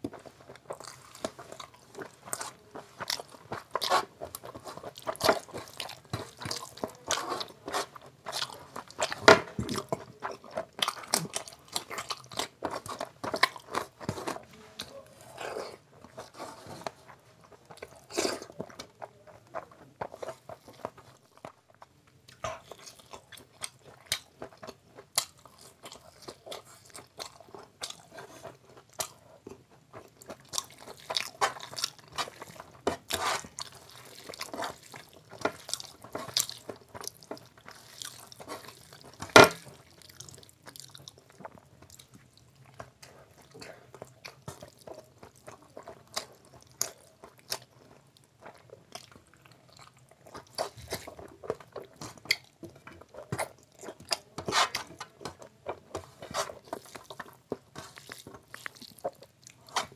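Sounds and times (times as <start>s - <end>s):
person chewing crisp food: 0.0s - 59.9s.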